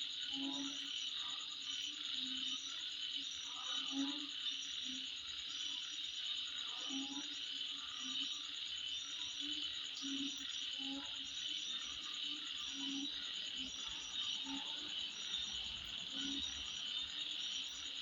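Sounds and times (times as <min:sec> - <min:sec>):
high-pitched insect trill: 0:00.0 - 0:18.0
lower insect call: 0:00.0 - 0:18.0.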